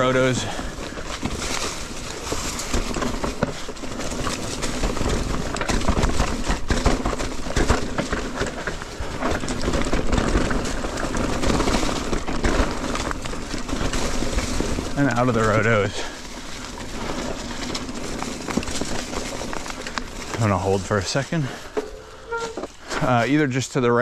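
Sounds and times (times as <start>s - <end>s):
bike rattling over bumps: 0.0s - 24.0s
bike tyre riding noise: 0.0s - 24.0s.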